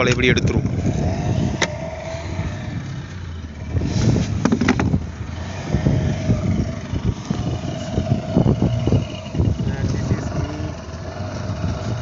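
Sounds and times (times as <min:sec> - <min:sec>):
outboard motor whining: 0:00.0 - 0:12.0
wind buffeting microphone: 0:00.0 - 0:12.0.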